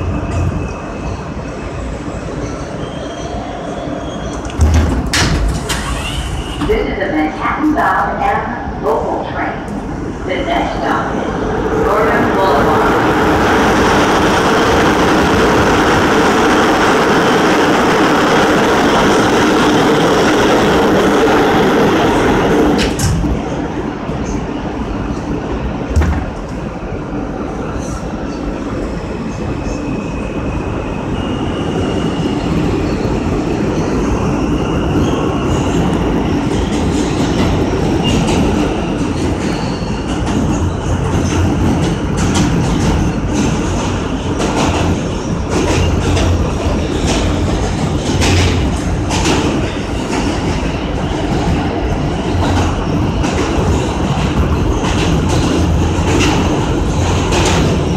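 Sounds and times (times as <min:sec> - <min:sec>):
subway train rumble: 0:00.0 - 0:57.9.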